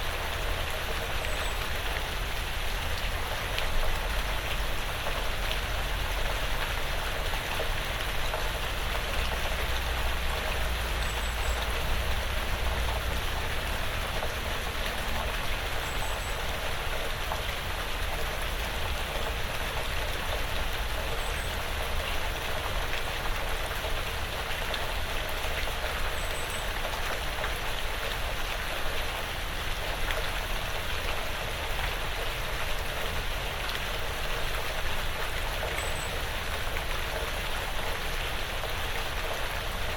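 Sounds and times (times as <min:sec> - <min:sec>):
rain on a porch roof: 0:00.0 - 0:39.9.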